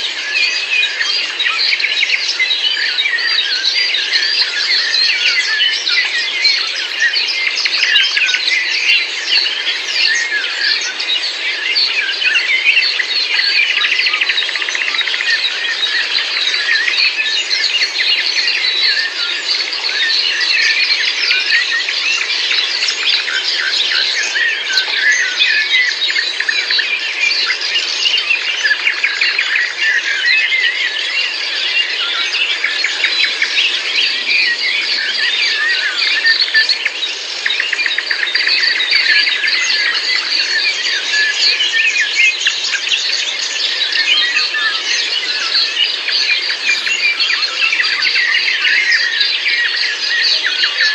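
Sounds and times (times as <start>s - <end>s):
chorus of birds chirping: 0.0s - 50.9s.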